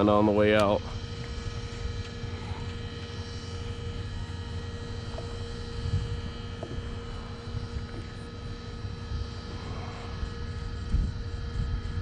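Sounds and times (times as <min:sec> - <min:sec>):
engine-like droning hum: 0:00.0 - 0:12.0
uneven low rumble: 0:00.0 - 0:12.0.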